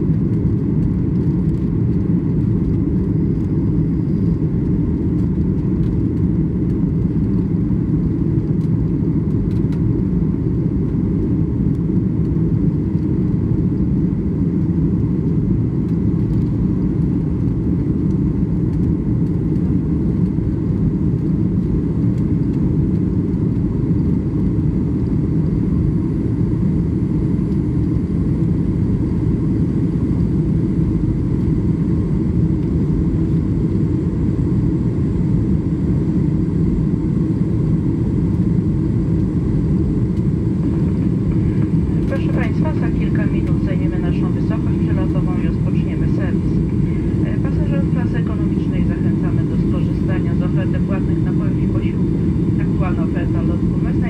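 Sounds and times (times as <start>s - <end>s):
airplane engines in cabin: 0.0s - 54.0s.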